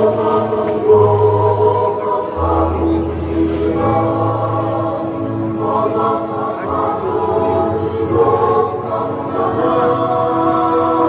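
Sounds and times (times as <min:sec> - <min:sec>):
choir singing over loudspeakers: 0:00.0 - 0:11.0.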